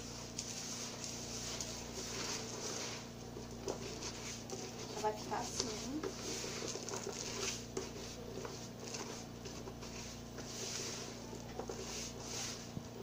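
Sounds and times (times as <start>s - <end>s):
hand rustling starch in bowl: 0.0s - 13.0s
scraping in plastic bowl: 0.5s - 12.9s.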